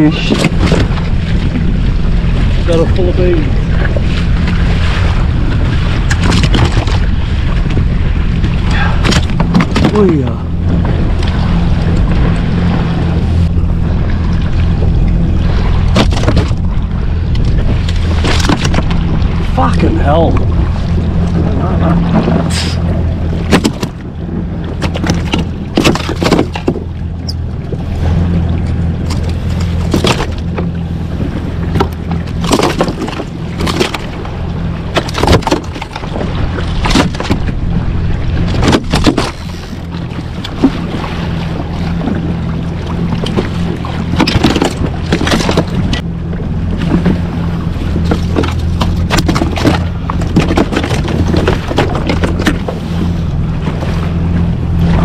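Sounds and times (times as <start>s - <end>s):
sharp knocks and splashes: 0.0s - 55.0s
water lapping against hull: 0.0s - 55.0s.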